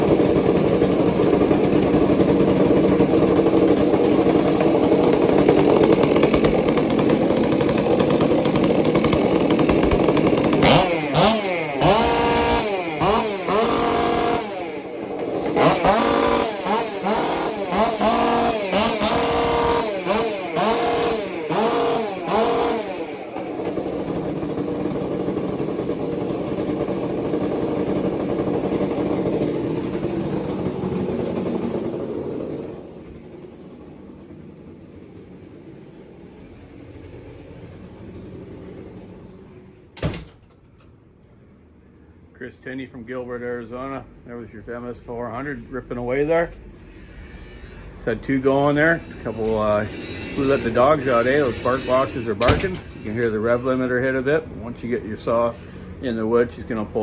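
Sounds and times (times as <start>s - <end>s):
chainsaw revving: 0.0s - 33.8s, 45.2s - 57.0s.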